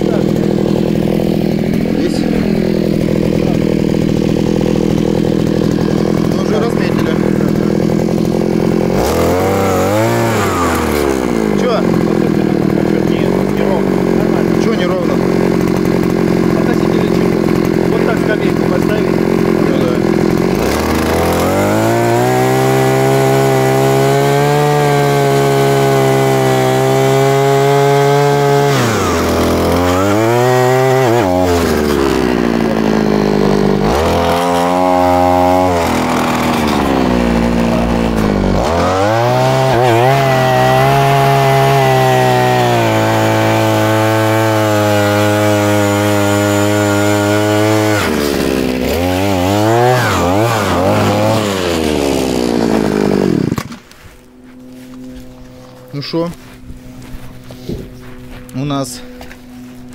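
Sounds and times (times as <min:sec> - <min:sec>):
power tool motor running: 0:00.0 - 0:59.9.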